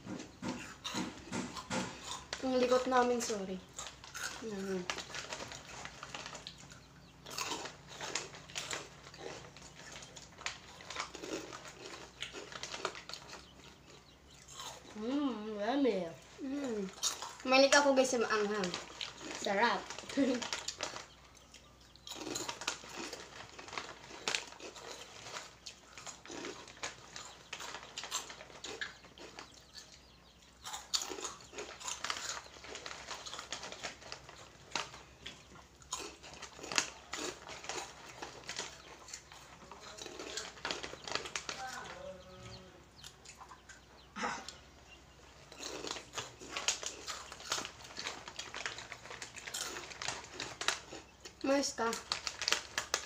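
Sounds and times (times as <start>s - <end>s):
crunchy chips being chewed: 0.0s - 15.4s, 16.2s - 42.0s, 42.9s - 44.6s, 45.2s - 53.0s
plastic bags rustling: 0.8s - 15.3s, 15.9s - 29.8s, 30.6s - 42.3s, 45.3s - 53.0s.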